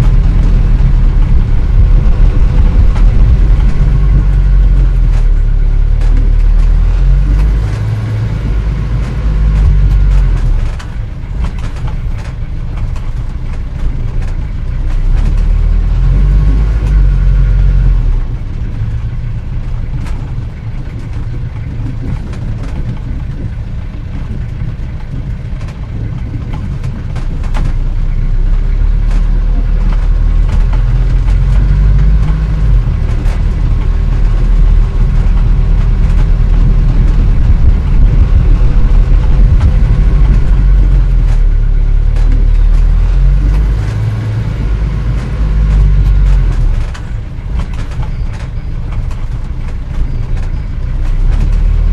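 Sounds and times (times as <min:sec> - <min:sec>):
car engine rumbling: 0:00.0 - 0:51.9
light clicks and rattles: 0:00.0 - 0:51.9.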